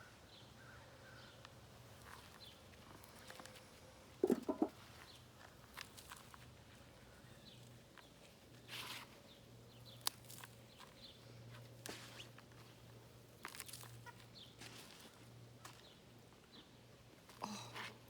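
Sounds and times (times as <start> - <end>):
hands rustling soil: 1.5 - 16.4.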